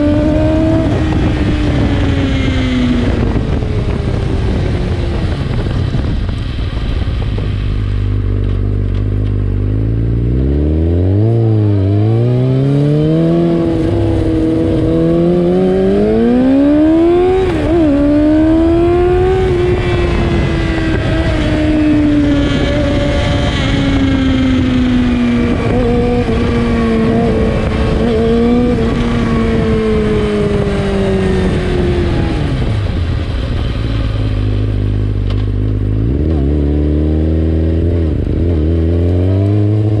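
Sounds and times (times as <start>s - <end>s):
motorcycle engine revving: 0.0s - 6.4s, 7.3s - 40.0s.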